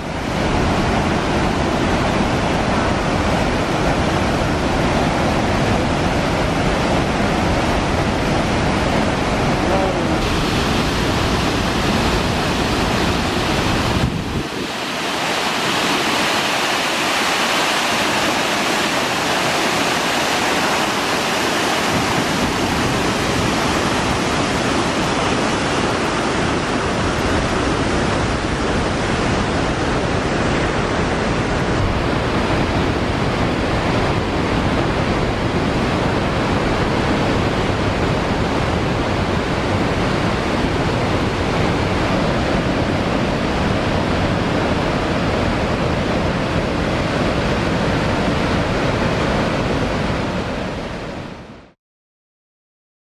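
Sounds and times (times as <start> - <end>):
waterfall rushing: 0.0 - 51.2.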